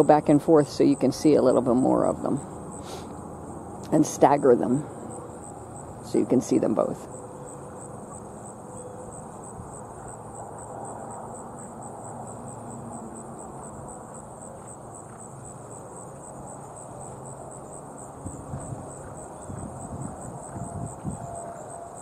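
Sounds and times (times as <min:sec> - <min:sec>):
low outdoor background hum: 0:00.0 - 0:22.0
insects chirring: 0:00.9 - 0:22.0.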